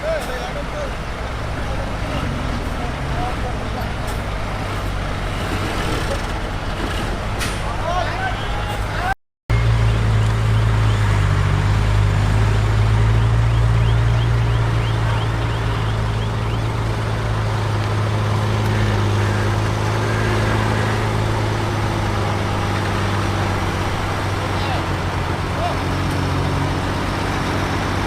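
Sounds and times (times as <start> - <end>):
diesel engine humming: 0.0 - 28.0.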